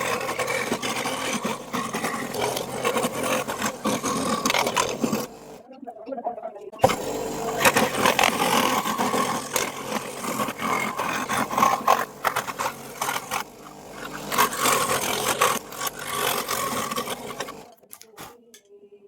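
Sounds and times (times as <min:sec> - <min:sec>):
electric power tool on wood: 0:00.0 - 0:05.6, 0:06.8 - 0:18.3
scraping and clicking: 0:00.0 - 0:05.6, 0:06.8 - 0:18.7.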